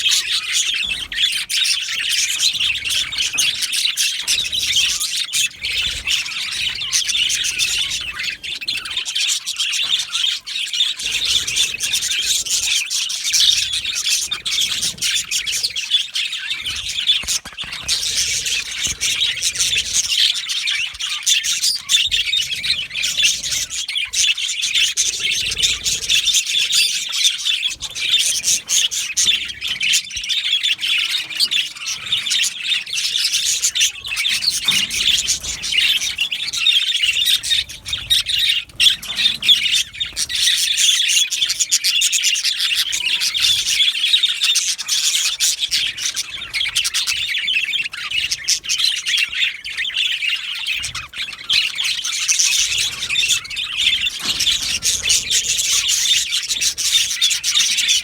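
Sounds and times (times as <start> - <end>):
flock of budgerigars chirping: 0.0 - 58.0.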